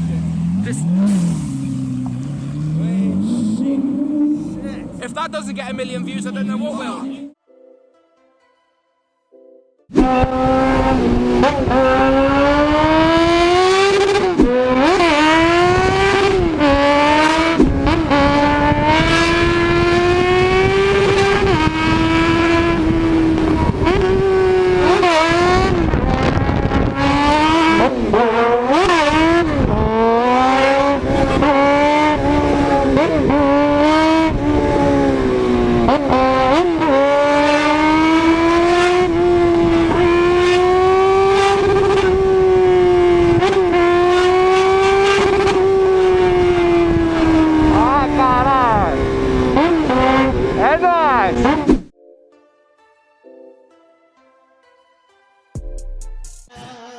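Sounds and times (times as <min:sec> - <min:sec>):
high-revving engine with loud exhaust: 0:00.0 - 0:07.4, 0:09.9 - 0:51.9.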